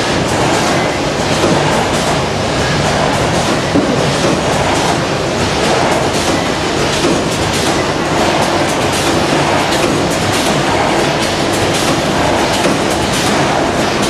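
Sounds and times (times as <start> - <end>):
packaging machines running: 0.0 - 14.0.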